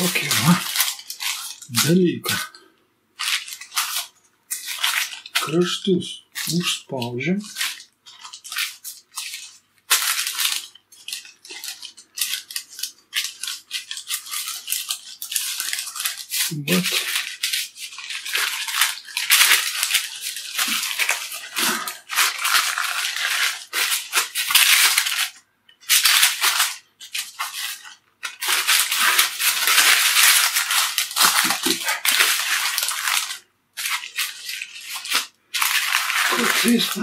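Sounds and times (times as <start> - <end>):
baking paper crinkling: 0.0 - 37.0.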